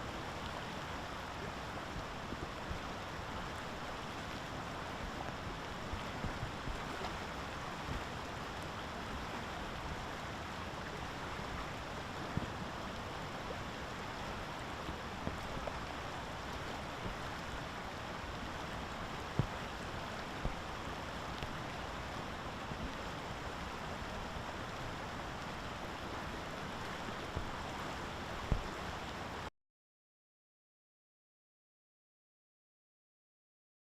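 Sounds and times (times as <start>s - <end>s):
water noise: 0.0s - 29.5s.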